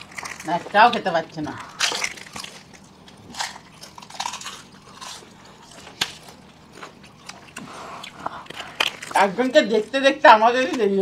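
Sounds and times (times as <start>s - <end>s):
crunching of crisp shells: 0.0s - 10.0s.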